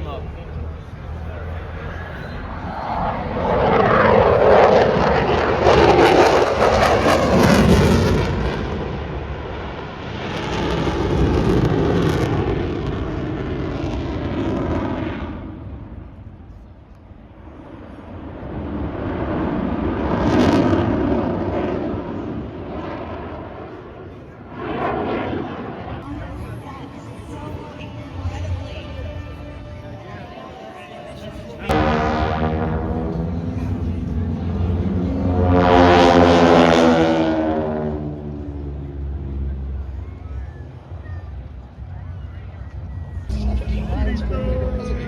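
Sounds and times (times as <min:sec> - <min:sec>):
jet aircraft flying past: 0:00.0 - 0:45.0.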